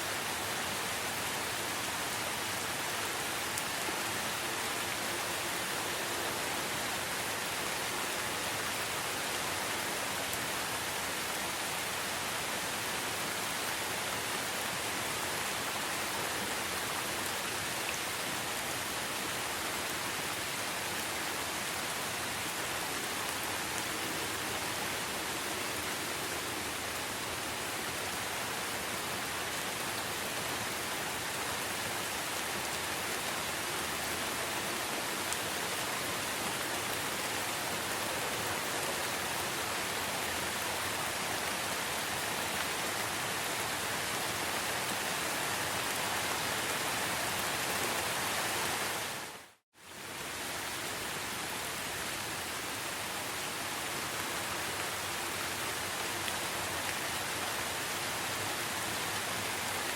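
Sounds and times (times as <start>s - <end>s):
steady rain in forest: 0.0s - 59.9s.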